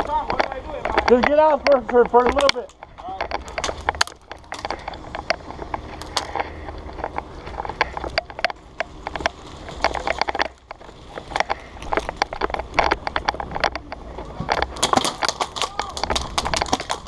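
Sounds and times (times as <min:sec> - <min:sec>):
sharp clicks and knocks: 0:00.0 - 0:17.0
steady low hum: 0:00.0 - 0:17.0.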